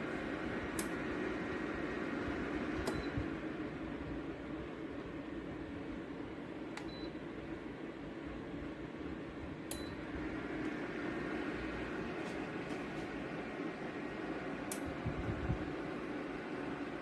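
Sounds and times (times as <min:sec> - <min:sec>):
heater fan humming: 0:00.0 - 0:17.0.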